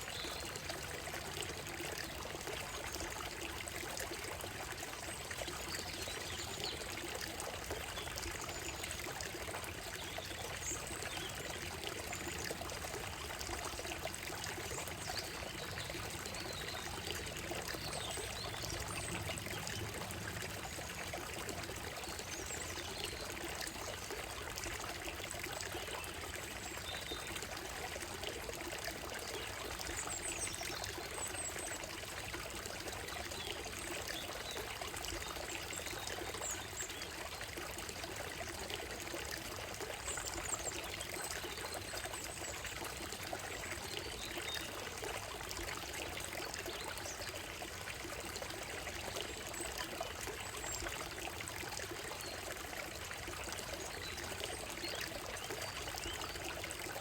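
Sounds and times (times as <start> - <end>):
stream over gravel: 0.0 - 57.0.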